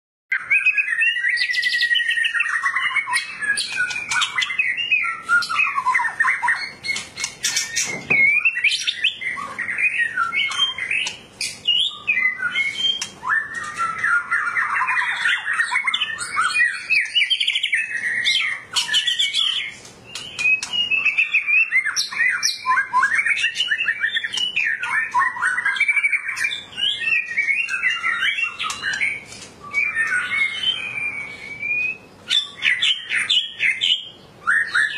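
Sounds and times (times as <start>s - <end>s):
bird singing whistled phrases: 0.3s - 34.9s.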